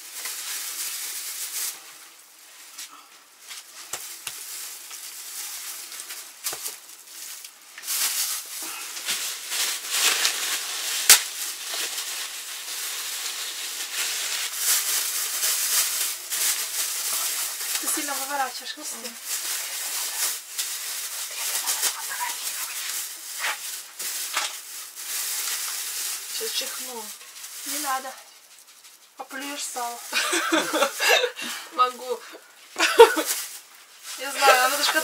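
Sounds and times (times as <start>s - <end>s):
plastic bags rustling and crinkling: 0.0s - 35.0s.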